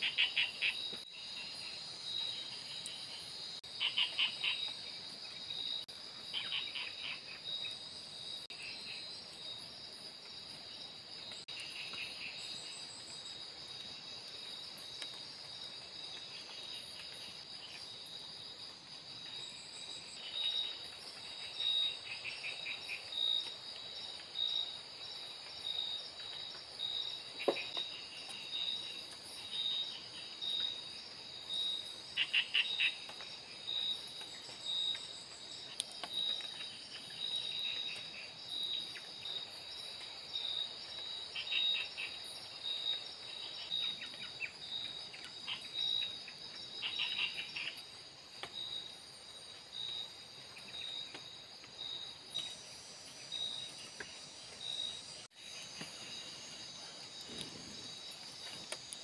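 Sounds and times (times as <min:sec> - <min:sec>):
crickets trilling and chirping: 0:00.0 - 0:59.0
rapid clicking insect calls: 0:00.0 - 0:59.0.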